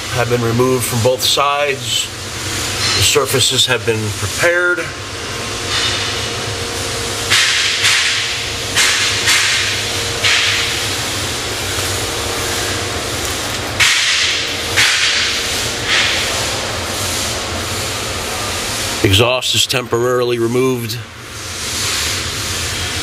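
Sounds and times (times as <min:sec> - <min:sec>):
low workshop hum: 0:00.0 - 0:23.0
pressurised air bursts hissing: 0:01.3 - 0:19.3, 0:21.2 - 0:23.0.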